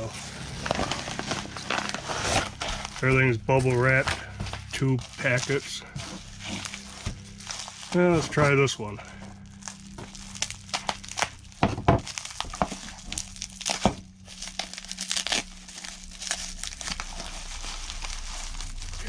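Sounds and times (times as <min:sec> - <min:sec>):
bubble wrap crinkling and crackling: 0:00.0 - 0:19.0.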